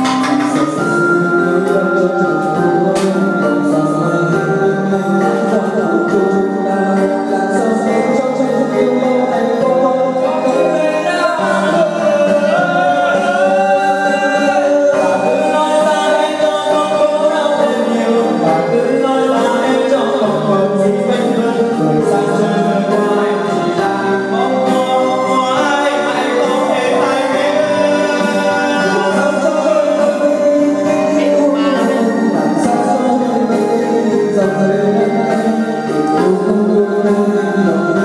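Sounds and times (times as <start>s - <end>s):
instrumental backing track: 0.0s - 38.0s
man singing into microphone: 0.0s - 38.0s.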